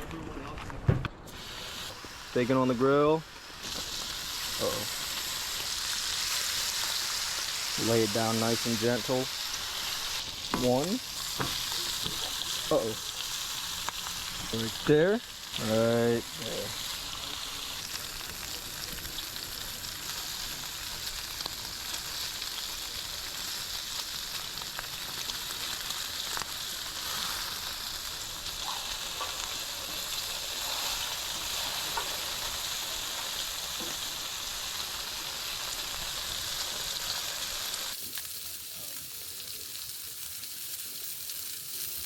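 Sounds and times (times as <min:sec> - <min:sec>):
bacon sizzling on a grill: 0:01.3 - 0:42.0.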